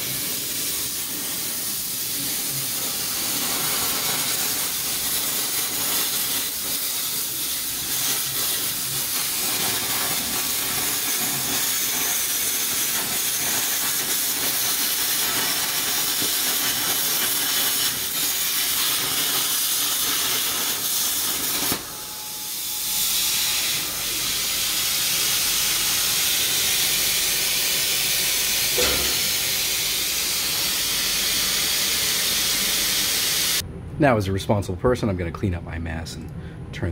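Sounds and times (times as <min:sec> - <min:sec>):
air hiss: 0:00.0 - 0:33.6
plasma arc crackling hiss: 0:00.0 - 0:33.6.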